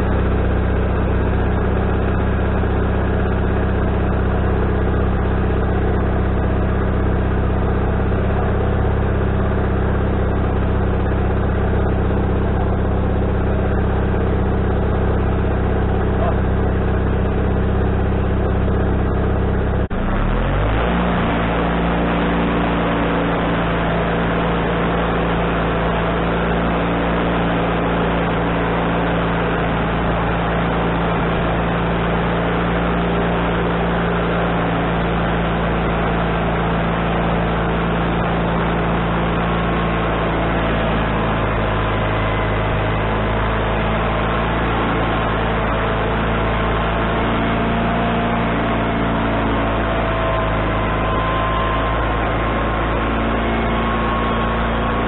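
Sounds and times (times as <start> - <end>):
band sawmill engine and blade running: 0.0 - 55.0.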